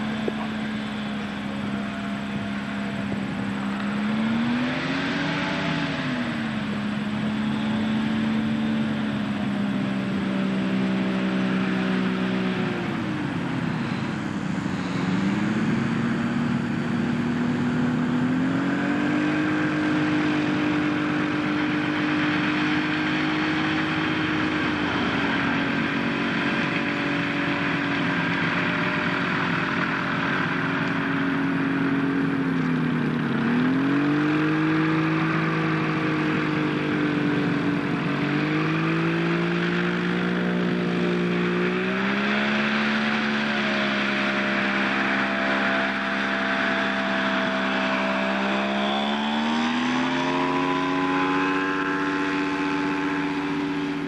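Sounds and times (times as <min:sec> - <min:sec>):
light plane engine and propeller: 0:00.0 - 0:54.0.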